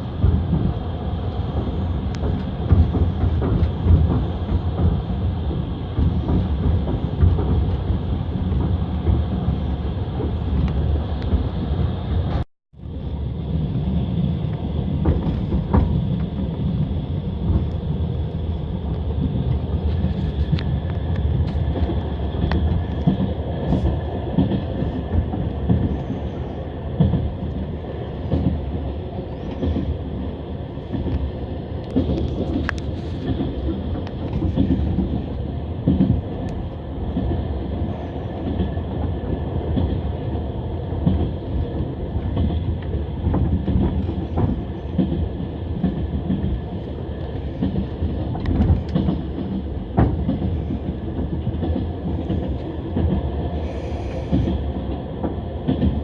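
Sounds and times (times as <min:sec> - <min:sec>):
train rumble: 0:00.0 - 0:56.0
train wheels clickety-clack: 0:00.0 - 0:56.0.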